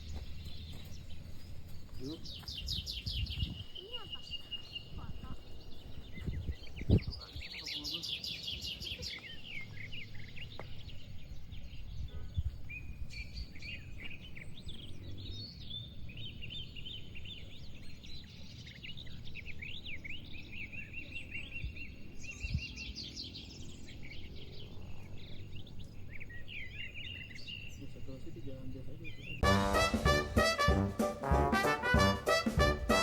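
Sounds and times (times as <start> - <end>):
birds chirping and twittering: 0.0 - 30.7.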